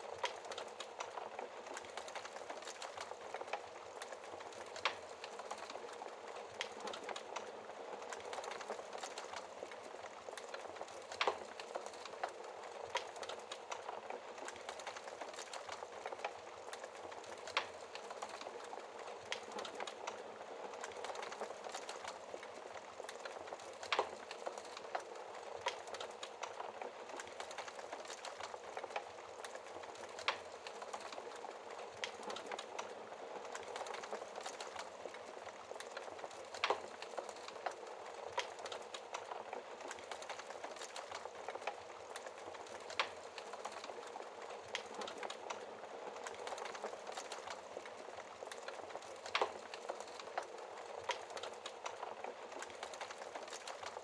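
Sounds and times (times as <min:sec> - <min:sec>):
burning wood crackling and popping: 0:00.0 - 0:54.0.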